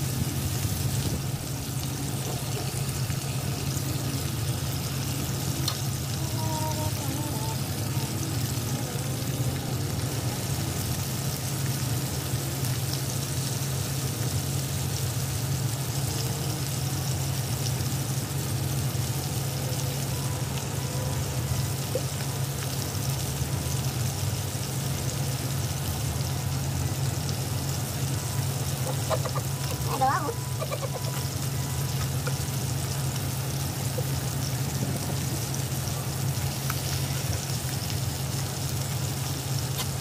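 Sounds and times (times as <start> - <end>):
meat sizzling in oil: 0.0 - 40.0.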